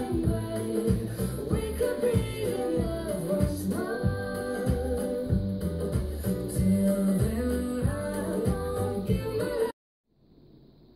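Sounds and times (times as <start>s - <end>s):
guitar-backed song with bass: 0.0s - 9.7s.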